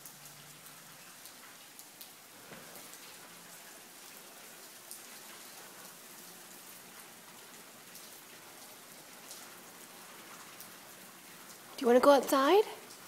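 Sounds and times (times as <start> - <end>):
rain falling: 0.0 - 13.0
raindrop ticks: 0.0 - 13.0.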